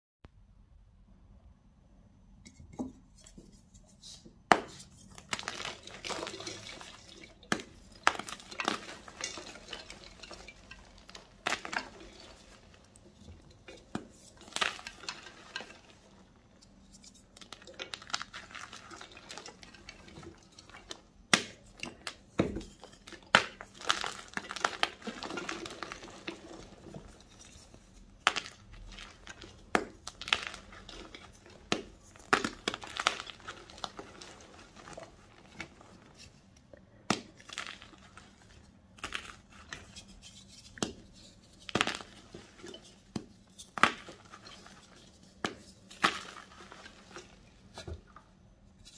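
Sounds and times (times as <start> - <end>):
chalk crunching and crumbling: 3.1 - 36.5, 37.2 - 48.2.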